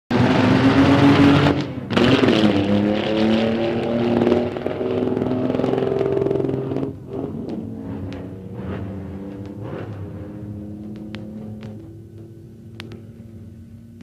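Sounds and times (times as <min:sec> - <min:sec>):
racing car engine high revs: 0:00.1 - 0:13.7.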